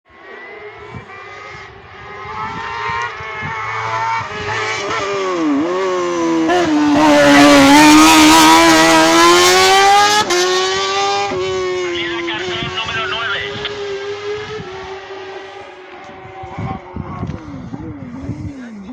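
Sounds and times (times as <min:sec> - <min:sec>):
racing buggy engine: 0:00.1 - 0:18.9.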